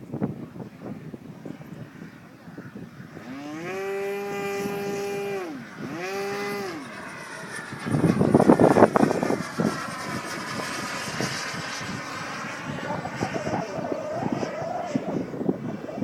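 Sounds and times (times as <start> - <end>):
wind noise rush: 0.0 - 16.0
model airplane motor revving: 3.0 - 15.9.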